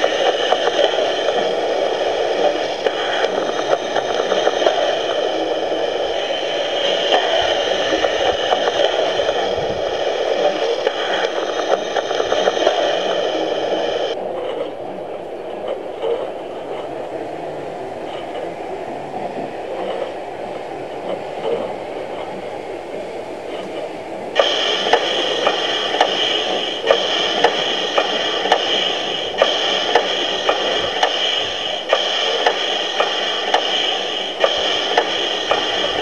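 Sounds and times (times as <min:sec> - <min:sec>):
high whine with clicks: 0:00.0 - 0:17.2, 0:19.2 - 0:36.0
model train running rumble: 0:00.0 - 0:36.0.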